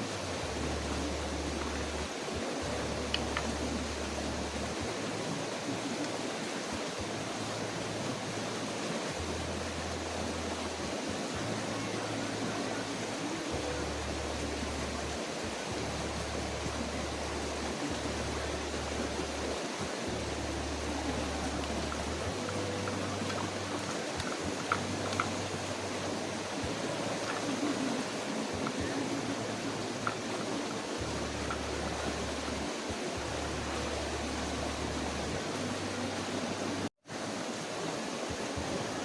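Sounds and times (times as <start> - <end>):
small stream flowing: 0.0 - 39.0.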